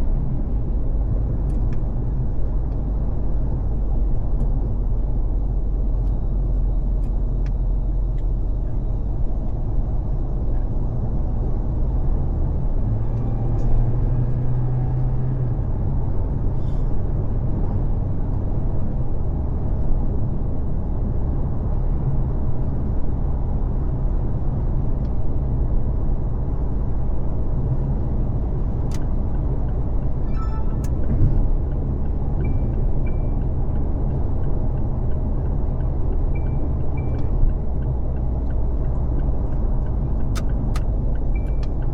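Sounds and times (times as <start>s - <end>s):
wind: 0.0s - 41.9s.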